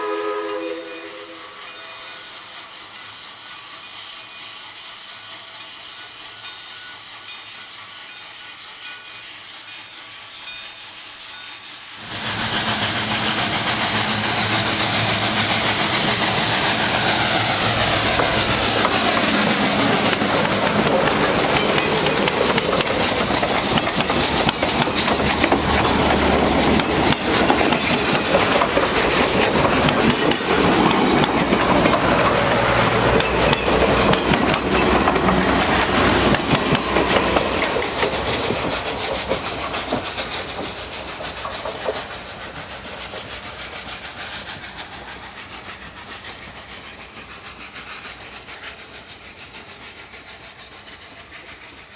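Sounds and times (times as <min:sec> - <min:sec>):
steam locomotive passing: 0:00.0 - 0:51.9
train wheels clicking over rail joints: 0:02.0 - 0:51.9.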